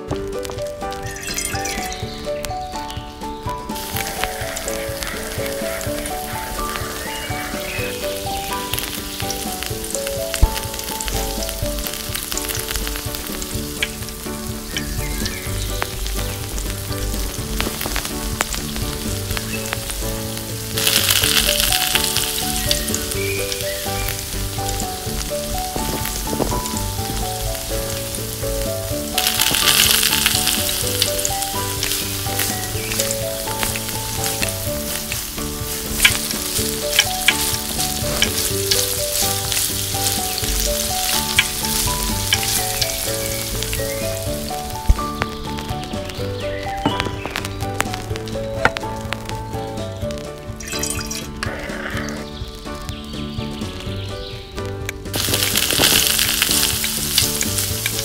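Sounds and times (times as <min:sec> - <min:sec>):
eggs sizzling in hot oil: 0:00.0 - 0:58.0.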